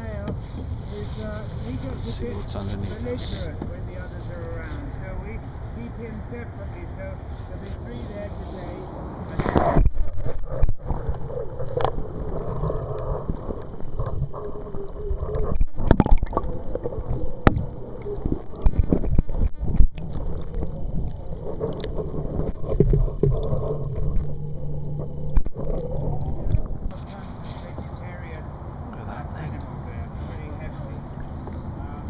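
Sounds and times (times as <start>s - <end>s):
paddle splashing water: 0.1s - 28.7s.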